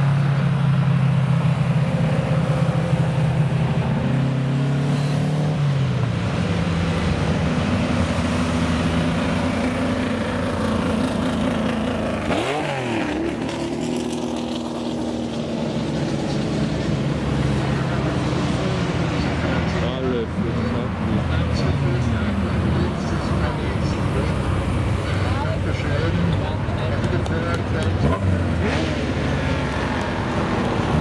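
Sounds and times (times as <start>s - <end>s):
racing car engine idling and revving: 0.0s - 31.0s.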